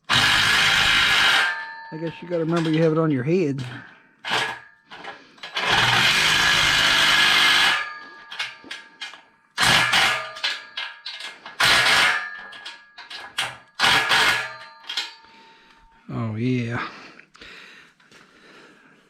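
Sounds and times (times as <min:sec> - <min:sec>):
power driver running bolts: 0:00.0 - 0:15.4.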